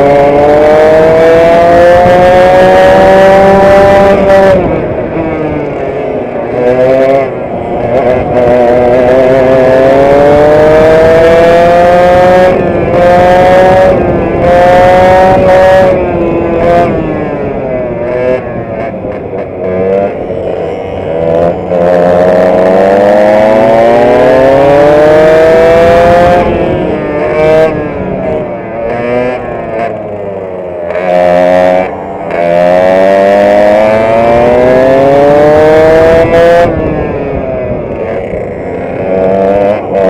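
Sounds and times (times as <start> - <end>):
kart engine revving: 0.0 - 40.0.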